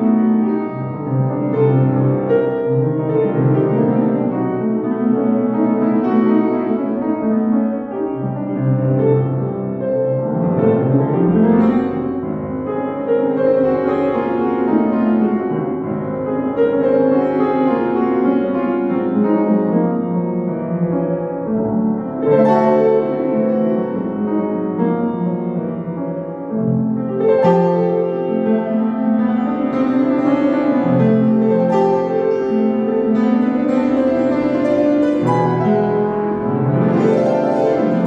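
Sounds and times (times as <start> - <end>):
solo classical piano piece: 0.0 - 38.0.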